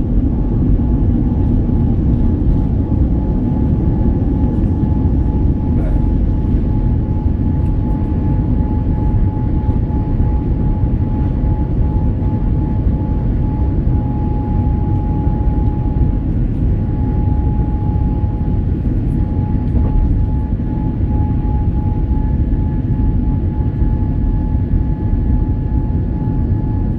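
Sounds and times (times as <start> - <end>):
airliner engine rumble and whine: 0.0 - 26.9.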